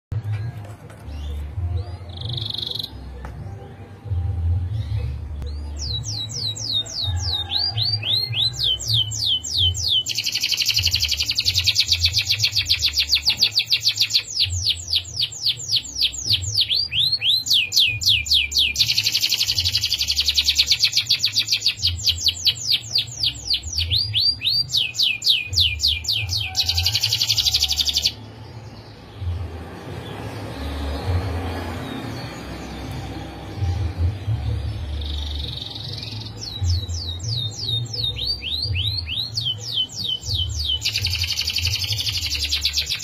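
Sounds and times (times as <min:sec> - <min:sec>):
canary singing trills: 0:00.9 - 0:29.4, 0:30.1 - 0:43.0.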